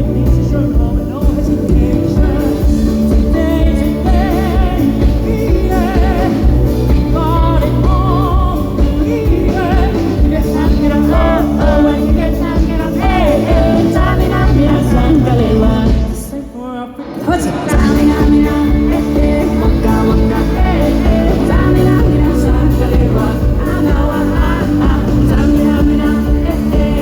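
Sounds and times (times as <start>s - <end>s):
live band playing: 0.0s - 27.0s
man singing with vibrato: 0.0s - 27.0s.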